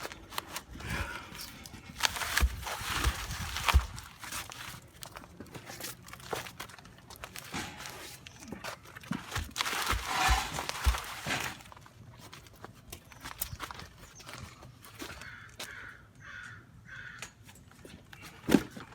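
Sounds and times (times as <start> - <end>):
rustling and crunching: 0.0 - 16.5, 17.4 - 18.9.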